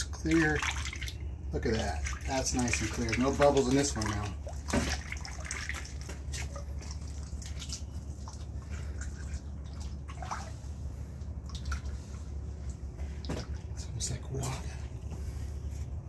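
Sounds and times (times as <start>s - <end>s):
resin trickling and dripping: 0.0s - 16.0s
steady low hum: 0.0s - 16.0s.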